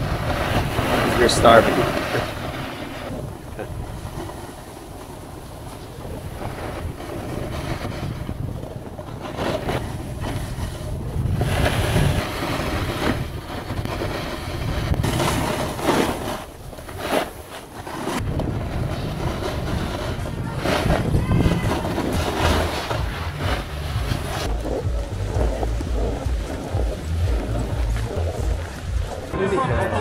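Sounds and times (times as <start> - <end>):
wind buffeting microphone: 0.0 - 29.4.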